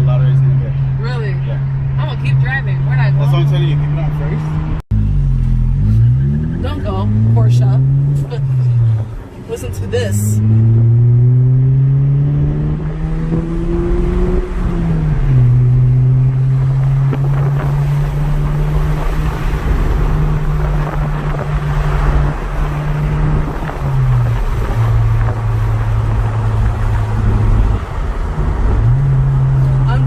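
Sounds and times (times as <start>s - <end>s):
car exhaust running: 0.0s - 30.0s.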